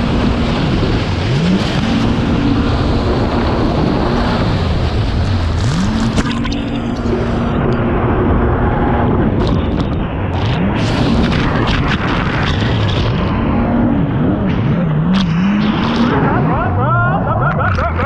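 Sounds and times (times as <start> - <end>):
jet ski engine running hard: 0.0 - 18.0
rushing water: 0.0 - 18.0
wind: 0.0 - 18.0.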